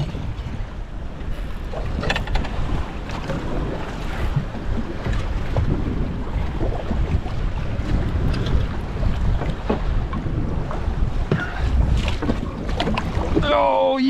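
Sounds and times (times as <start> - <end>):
water sloshing around boat: 0.0 - 14.0
wind buffeting microphone: 0.0 - 14.0.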